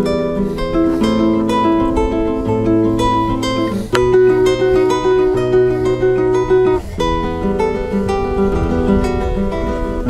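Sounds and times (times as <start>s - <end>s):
fingerstyle nylon-string guitar: 0.0s - 10.0s.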